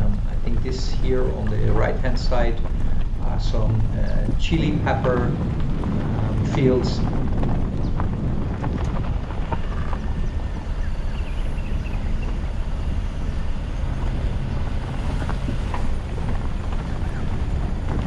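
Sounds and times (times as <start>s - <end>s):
tyres and engine rumbling: 0.0s - 18.0s.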